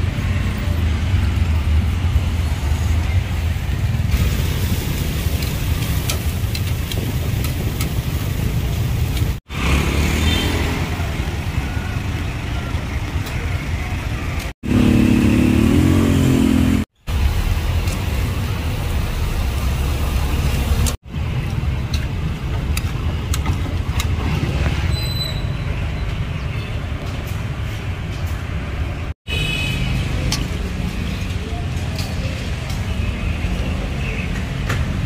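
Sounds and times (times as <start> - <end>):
street traffic rumble: 0.0 - 35.0.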